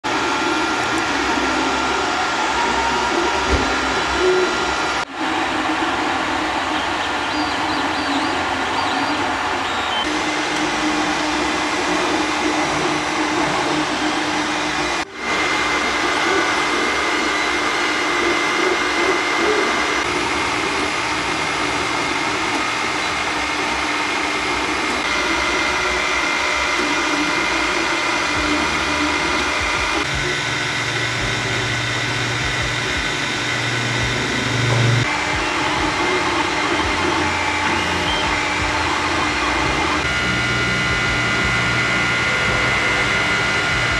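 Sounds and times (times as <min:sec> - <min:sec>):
cooling fans whirring: 0:00.0 - 0:43.9
stepper motors whining: 0:00.0 - 0:43.9.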